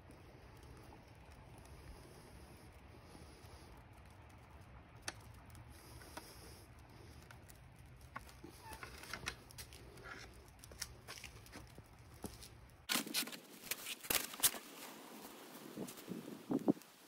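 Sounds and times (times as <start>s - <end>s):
faint crackling and ticking: 0.0s - 17.0s.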